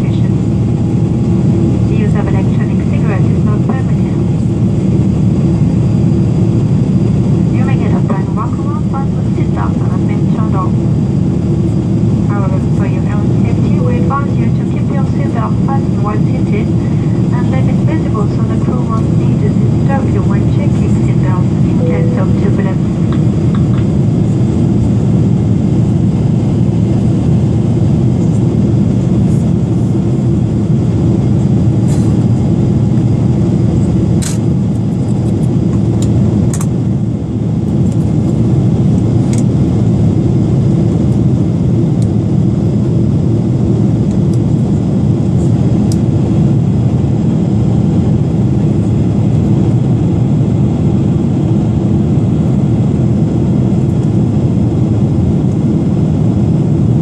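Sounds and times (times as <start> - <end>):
jet cabin noise: 0.0 - 57.0.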